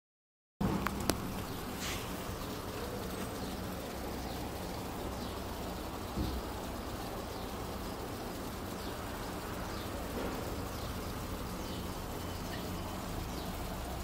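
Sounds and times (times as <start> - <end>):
water streams splashing down: 0.6 - 14.0.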